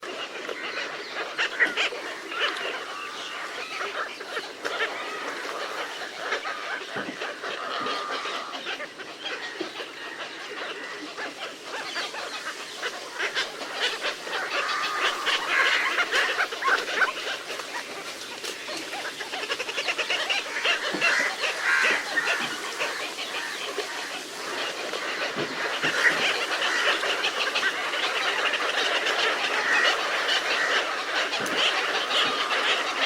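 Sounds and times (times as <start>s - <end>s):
cormorants clicking calls: 0.2s - 11.1s, 12.4s - 33.0s.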